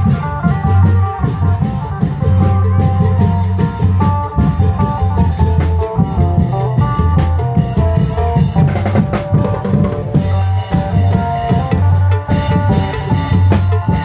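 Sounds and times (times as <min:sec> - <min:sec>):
drums beating dance rhythm: 0:00.0 - 0:14.0.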